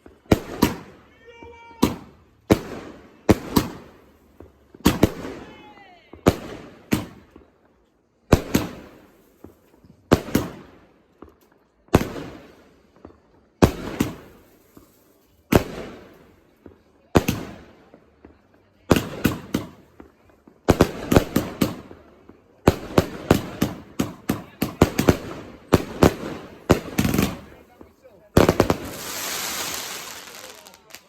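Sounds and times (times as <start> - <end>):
firework bangs: 0.0 - 7.7, 8.3 - 31.0.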